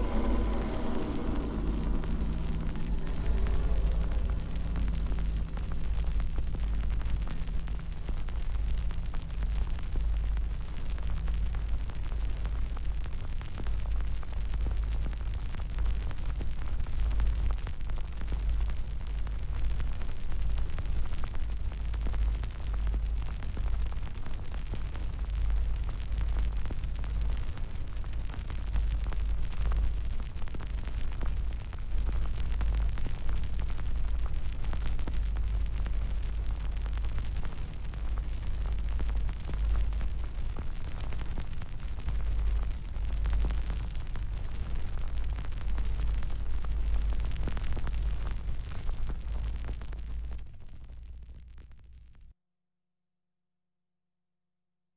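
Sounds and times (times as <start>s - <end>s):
large fire crackling: 0.0s - 52.2s.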